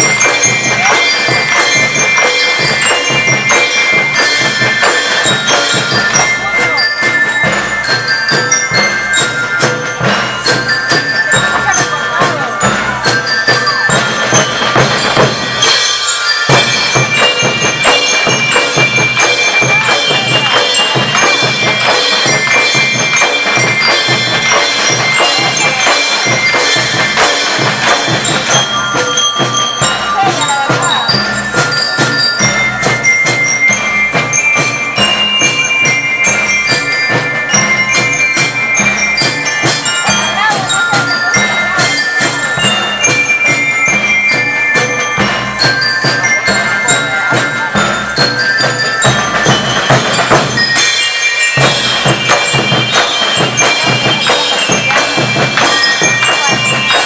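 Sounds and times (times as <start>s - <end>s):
bell lyre and xylophone melody: 0.0s - 57.0s
drums beating steady rhythm: 0.0s - 57.0s.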